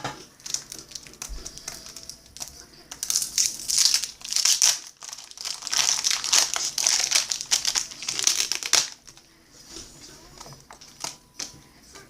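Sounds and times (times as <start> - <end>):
wrapper crinkling and rustling: 0.2 - 9.3, 10.1 - 11.5.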